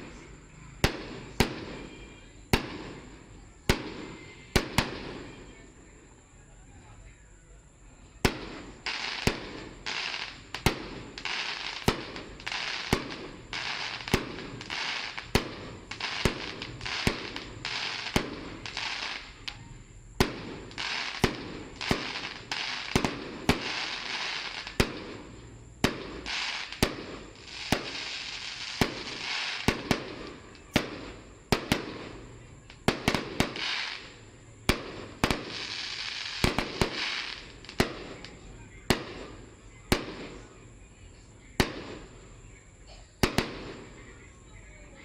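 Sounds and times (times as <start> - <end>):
fireworks bangs: 0.0 - 6.0, 8.1 - 45.0
crackling hiss of fireworks: 0.0 - 45.0.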